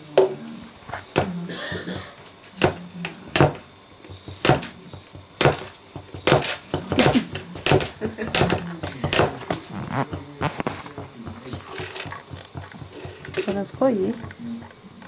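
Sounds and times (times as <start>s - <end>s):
toys and paws knocking on tiles: 0.9s - 15.0s.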